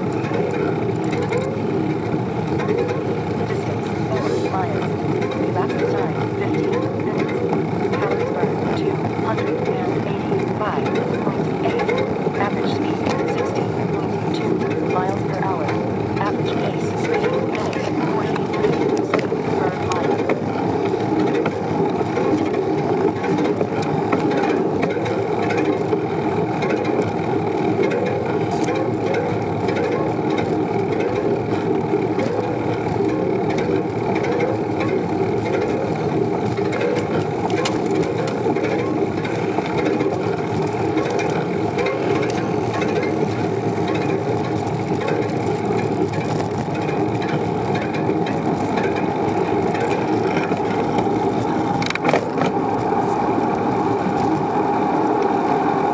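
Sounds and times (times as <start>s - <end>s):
bicycle clicking and rattling: 0.0s - 55.9s
road and wind rumble: 0.0s - 55.9s.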